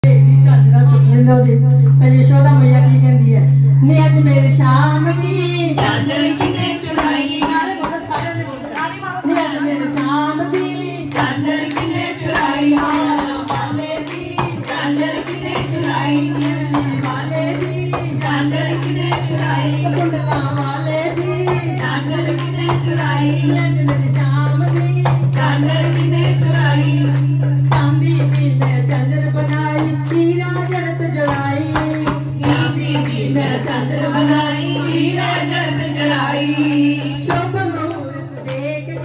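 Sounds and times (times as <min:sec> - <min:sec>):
women singing devotional song: 0:00.0 - 0:39.0
group clapping in rhythm: 0:04.7 - 0:39.0.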